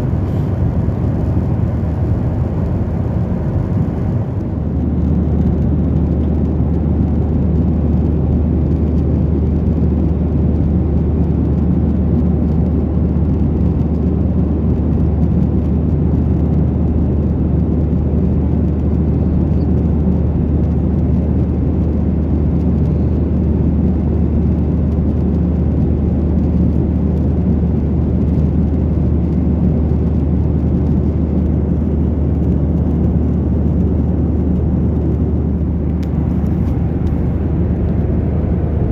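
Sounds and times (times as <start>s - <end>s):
airflow rushing in cabin: 0.0s - 38.9s
low hum of jet engines: 0.0s - 38.9s.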